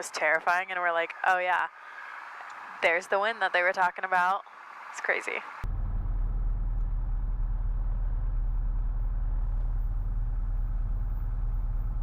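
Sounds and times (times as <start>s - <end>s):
small plane engine running: 0.9s - 12.0s.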